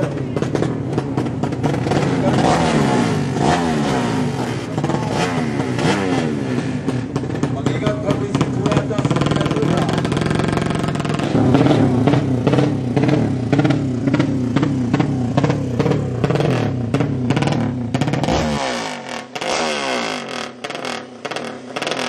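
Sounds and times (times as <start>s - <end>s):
faint engine accelerating: 0.0s - 22.0s
motorcycle engine revving in blips: 0.0s - 22.0s.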